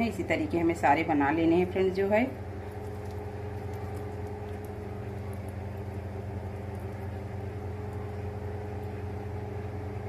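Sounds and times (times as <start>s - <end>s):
motor humming: 1.2s - 10.0s.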